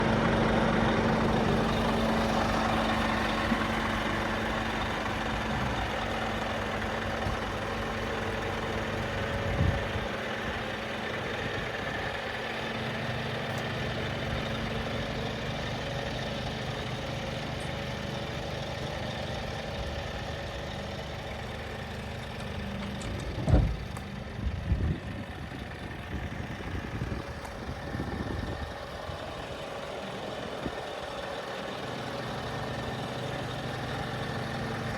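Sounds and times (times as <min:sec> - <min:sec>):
truck diesel engine idling: 0:00.0 - 0:34.9.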